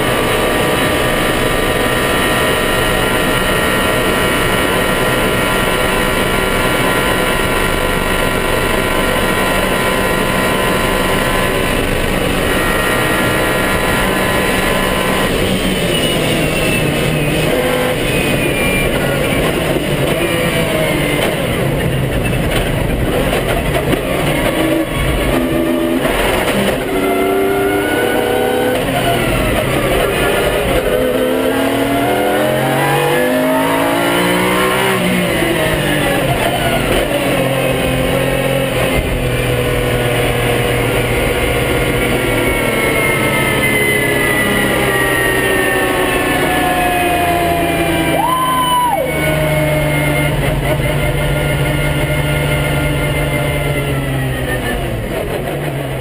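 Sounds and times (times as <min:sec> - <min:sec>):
race car engine accelerating: 0:00.0 - 0:56.0
wind and road noise: 0:00.0 - 0:56.0.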